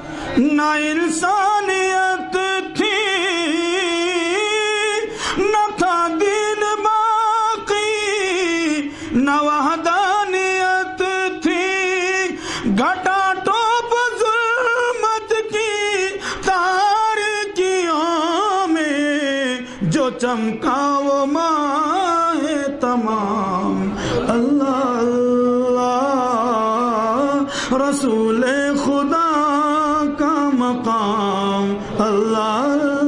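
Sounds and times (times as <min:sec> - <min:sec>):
man singing unaccompanied: 0:00.4 - 0:33.0.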